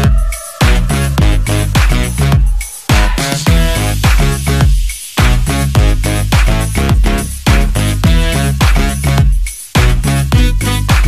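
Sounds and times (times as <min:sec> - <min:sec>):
dance music: 0:00.0 - 0:11.0
deep kick drums: 0:00.0 - 0:11.0.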